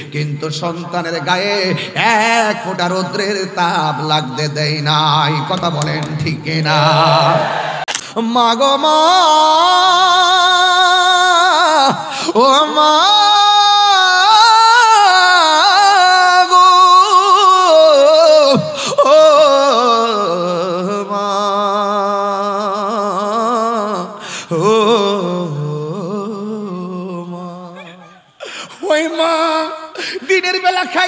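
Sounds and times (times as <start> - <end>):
man singing a lament: 0.0 - 31.0.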